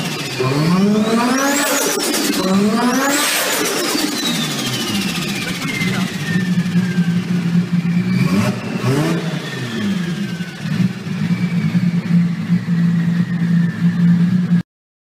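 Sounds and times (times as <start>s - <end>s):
car engine idling and revving: 0.0s - 14.6s
high falling whistle: 0.6s - 14.4s.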